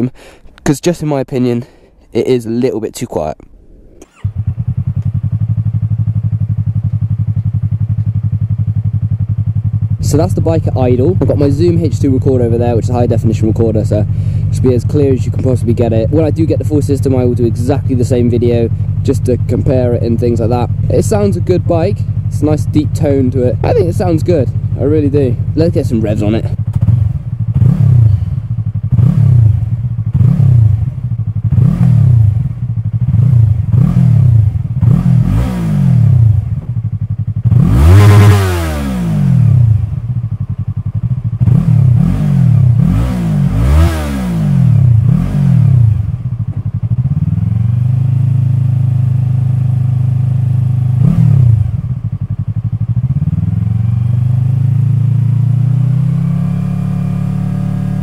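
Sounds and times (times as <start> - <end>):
motorcycle engine revving: 3.3 - 58.0
motorcycle engine idling: 3.5 - 58.0.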